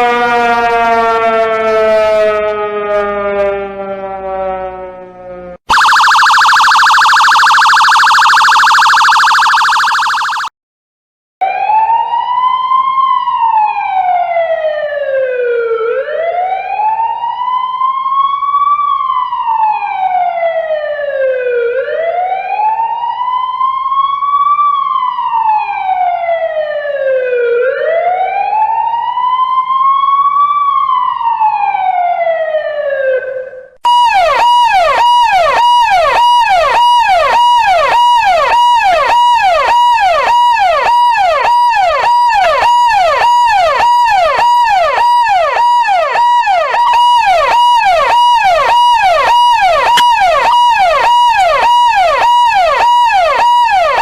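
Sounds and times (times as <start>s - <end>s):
emergency vehicle siren: 0.0s - 10.5s, 11.4s - 54.0s.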